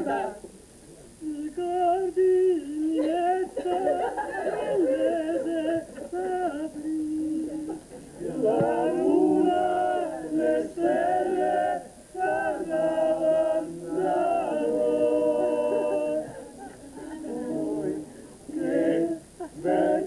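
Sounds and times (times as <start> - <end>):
male vocal ensemble singing: 0.0 - 0.5, 1.2 - 20.0.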